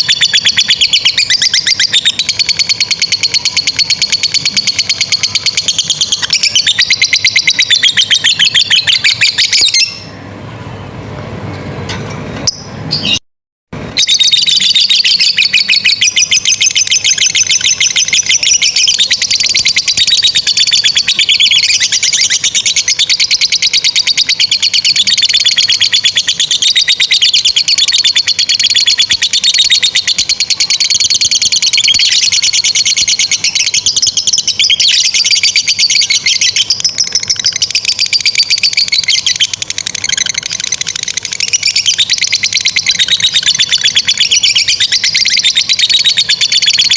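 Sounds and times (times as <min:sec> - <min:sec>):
lovebird chattering: 0:00.0 - 0:10.1, 0:14.0 - 0:46.9.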